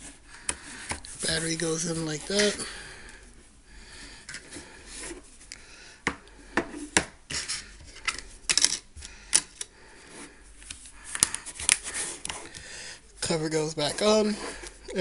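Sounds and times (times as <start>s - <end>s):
rubbing and handling noise: 0.0s - 5.6s, 6.3s - 15.0s.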